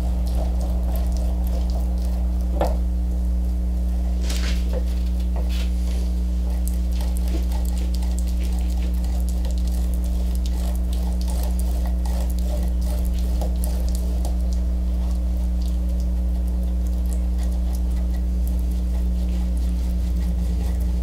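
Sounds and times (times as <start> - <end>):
brush spreading wet glue: 0.0 - 2.3, 4.0 - 21.0
steady low hum: 0.0 - 21.0.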